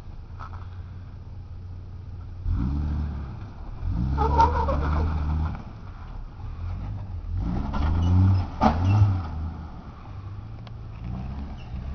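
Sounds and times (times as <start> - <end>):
car engine revving: 2.2 - 11.9.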